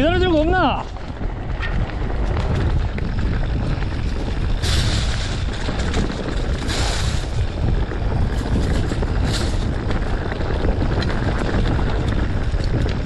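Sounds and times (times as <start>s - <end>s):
mountain bike rattling over rocks: 0.0s - 13.0s
wind noise on microphone: 0.0s - 13.0s.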